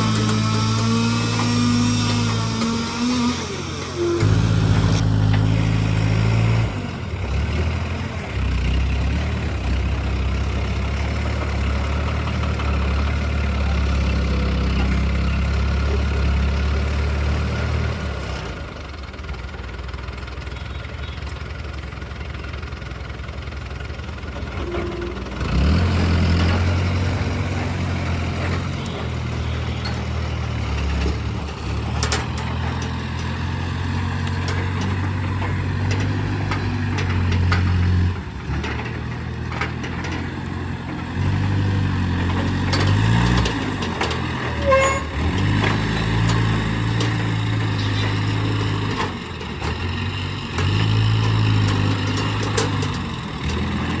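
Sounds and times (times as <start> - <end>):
heavy diesel crane engine: 0.0 - 54.0.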